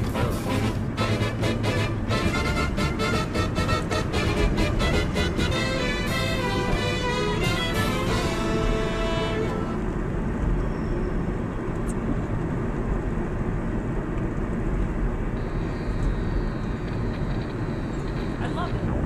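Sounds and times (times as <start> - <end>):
car engine from inside cabin: 0.0 - 19.0
tyre road noise: 0.0 - 19.0.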